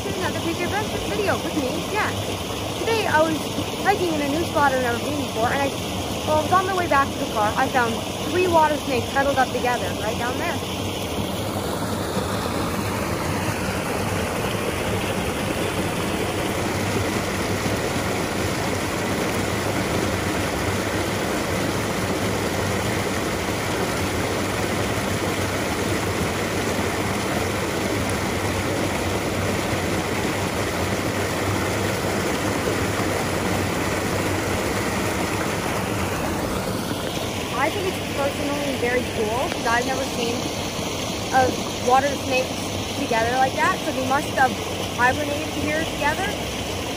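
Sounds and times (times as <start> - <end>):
waterfall rushing over rocks: 0.0 - 46.9.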